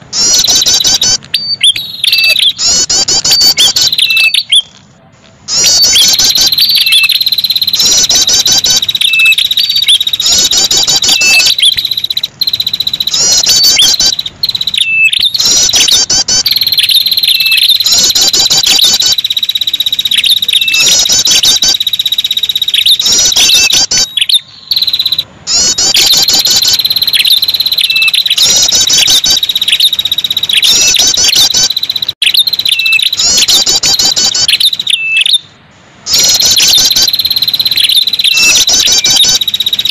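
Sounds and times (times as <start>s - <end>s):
fast high bird chattering: 0.0s - 4.8s, 5.4s - 39.9s.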